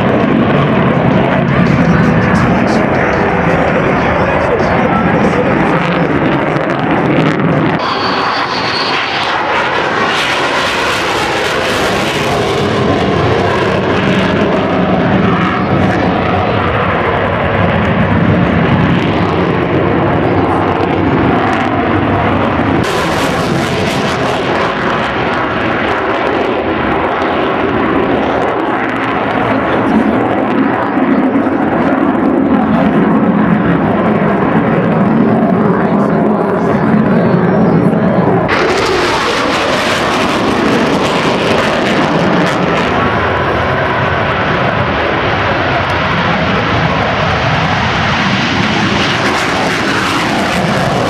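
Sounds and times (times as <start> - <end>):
faint high jet whine: 0.0 - 51.0
loud jet engine noise: 0.0 - 51.0.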